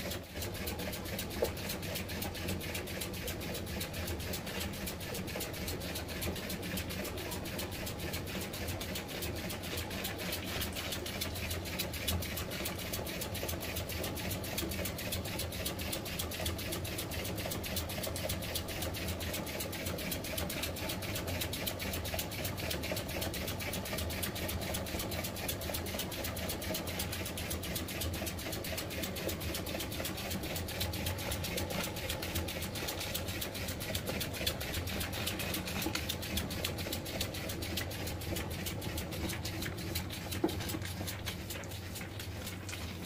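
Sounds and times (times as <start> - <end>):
steam engine chuffing: 0.0 - 43.0.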